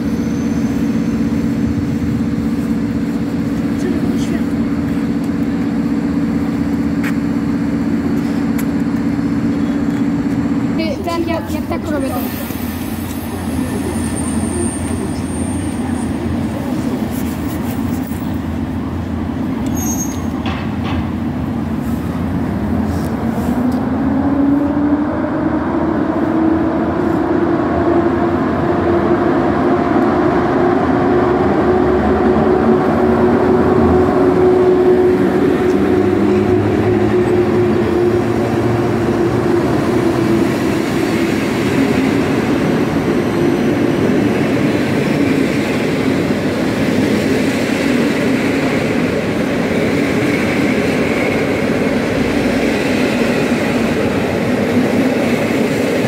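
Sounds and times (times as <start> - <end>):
locomotive whine: 0.0 - 56.0
train wheels rumbling on rail: 0.0 - 56.0.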